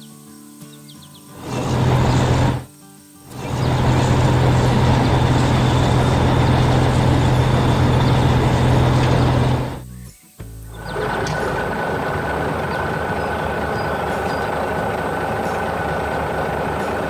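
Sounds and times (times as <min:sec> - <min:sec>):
heavy vehicle engine humming: 0:01.4 - 0:02.7, 0:03.3 - 0:09.9, 0:10.6 - 0:17.0.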